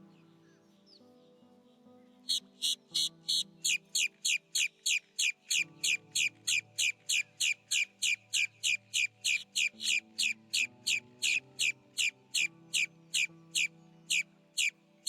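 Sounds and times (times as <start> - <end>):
soft background music: 0.0 - 15.0
bird calling high notes: 2.3 - 14.8.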